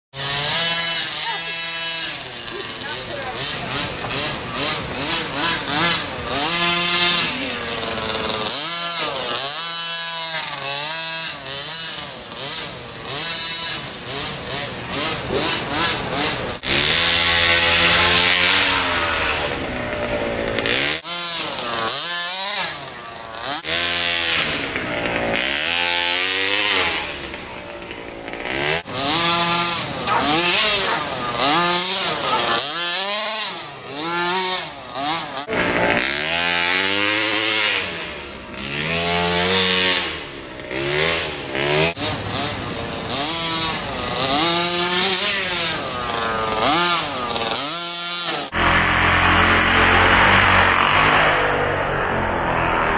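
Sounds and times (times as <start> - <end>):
small two-stroke engine revving: 0.1 - 52.9.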